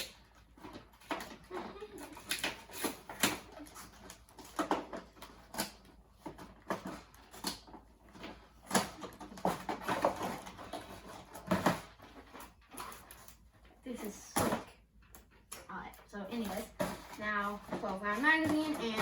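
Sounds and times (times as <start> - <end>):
cardboard and plastic crackling: 0.0 - 19.0.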